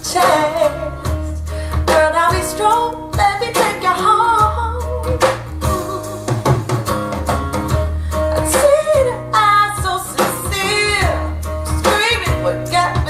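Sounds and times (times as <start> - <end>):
woman singing: 0.0 - 6.4, 8.1 - 13.0
guitar bass and drums: 0.0 - 13.0.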